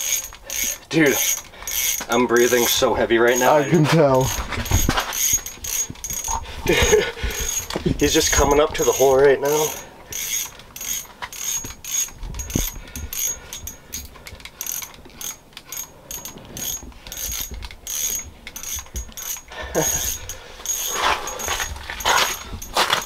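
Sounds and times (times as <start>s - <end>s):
fishing reel ratcheting clicks: 0.0s - 22.8s.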